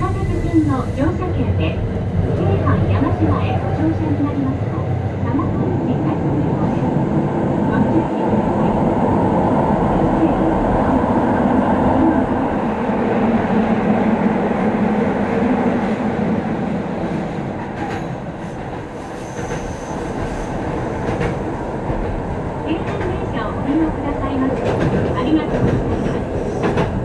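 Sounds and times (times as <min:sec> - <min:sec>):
train rumbling in tunnel: 0:00.0 - 0:27.0.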